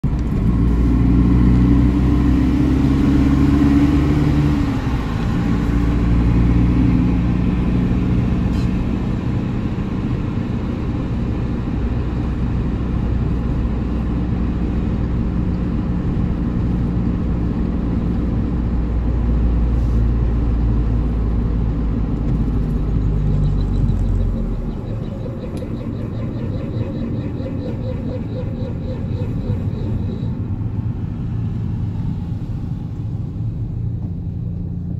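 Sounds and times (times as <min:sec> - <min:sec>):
car engine drone: 0:00.0 - 0:34.9.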